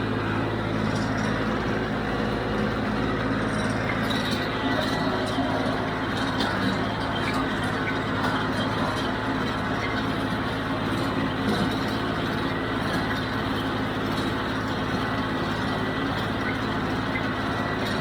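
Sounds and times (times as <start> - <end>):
square baler working: 0.0 - 18.0
tractor diesel engine running: 0.0 - 18.0.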